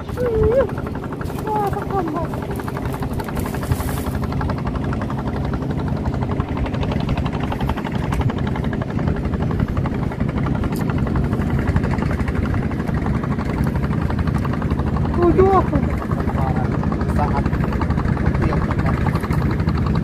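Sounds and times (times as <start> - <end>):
small boat engine running: 0.0 - 20.0.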